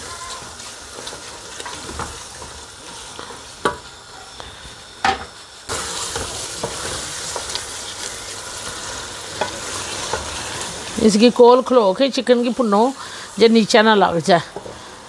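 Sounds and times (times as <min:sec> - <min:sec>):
chicken sizzling in a pot: 0:00.0 - 0:15.0.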